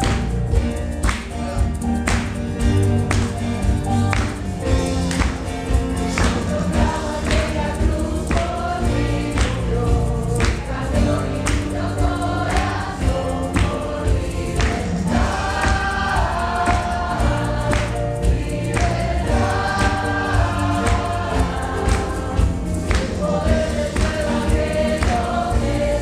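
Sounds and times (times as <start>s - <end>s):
band accompaniment: 0.0s - 26.0s
congregation singing: 0.0s - 26.0s
drum beat: 0.0s - 26.0s.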